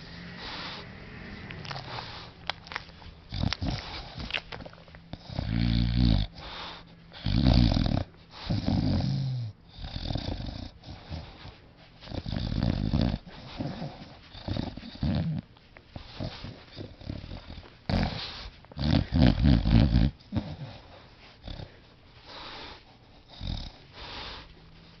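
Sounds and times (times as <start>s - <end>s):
dog snoring: 0.0s - 25.0s.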